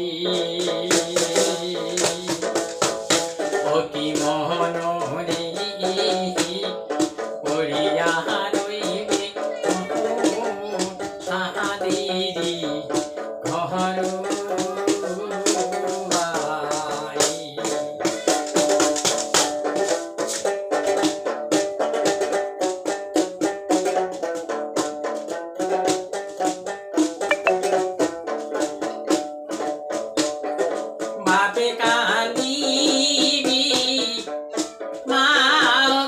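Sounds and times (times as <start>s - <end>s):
plucked string folk tune: 0.0s - 36.0s.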